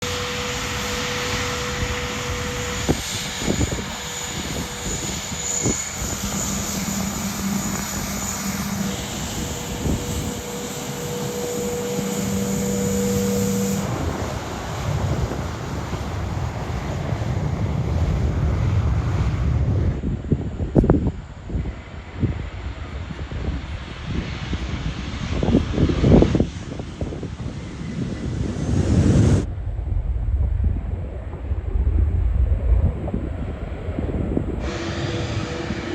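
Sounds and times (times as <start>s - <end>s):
jet engines roaring: 0.0s - 35.9s.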